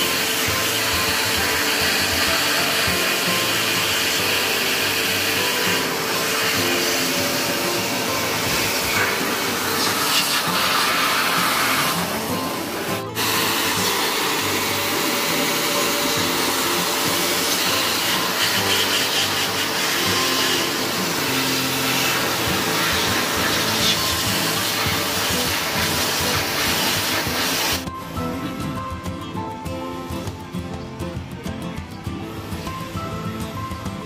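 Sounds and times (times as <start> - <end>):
electric air blower running: 0.0 - 27.9.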